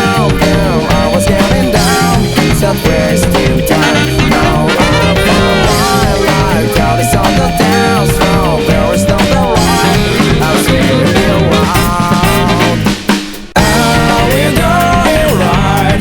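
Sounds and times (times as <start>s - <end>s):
saxophones: 0.0s - 13.0s, 13.6s - 15.3s
upbeat ska band playing: 0.0s - 16.0s.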